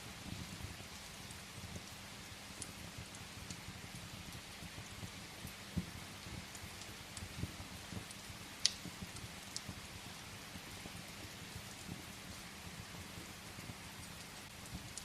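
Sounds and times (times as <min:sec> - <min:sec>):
steady rain hiss: 0:00.0 - 0:15.0
wood fire crackling: 0:00.0 - 0:15.0.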